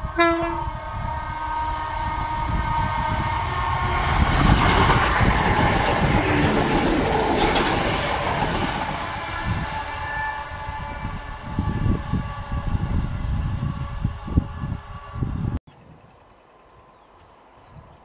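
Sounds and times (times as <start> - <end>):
train passing at speed: 0.0 - 15.6.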